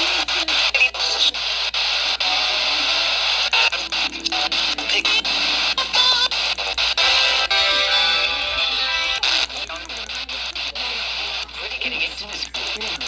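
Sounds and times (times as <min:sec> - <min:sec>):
faint voice over radio: 0:00.0 - 0:07.1, 0:07.9 - 0:13.0
radio static hiss: 0:00.0 - 0:13.0.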